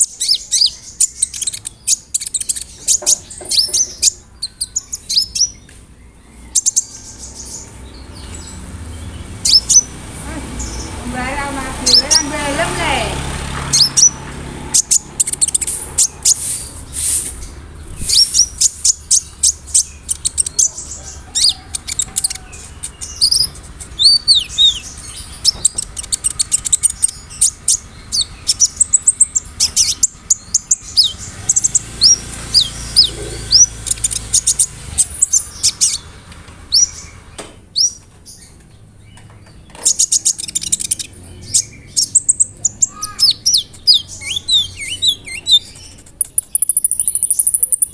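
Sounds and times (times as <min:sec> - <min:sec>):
sunbird singing high chirps: 0:00.0 - 0:47.9.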